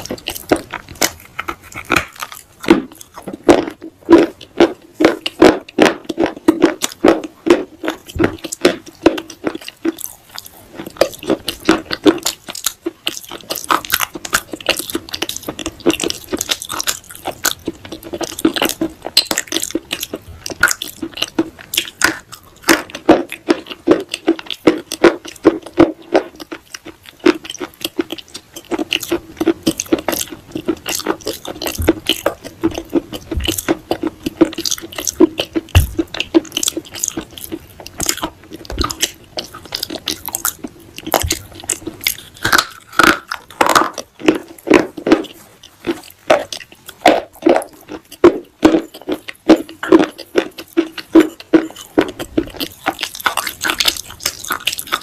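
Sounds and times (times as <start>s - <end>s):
clay pieces crunching in mouth: 0.0s - 55.0s.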